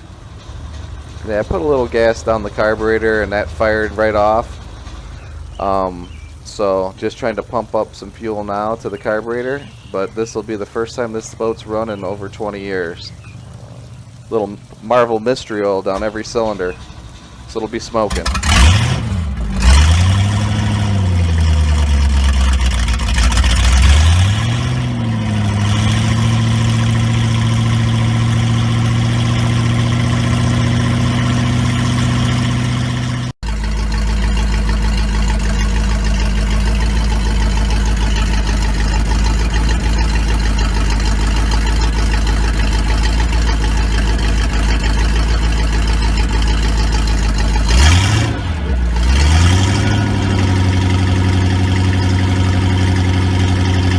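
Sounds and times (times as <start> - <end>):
boat engine idling and revving: 0.0 - 53.9.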